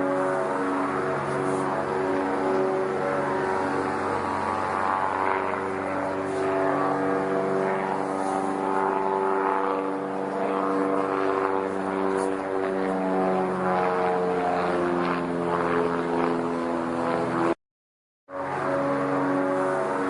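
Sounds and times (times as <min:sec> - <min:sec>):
propeller plane engine droning: 0:00.0 - 0:17.6, 0:18.3 - 0:20.0.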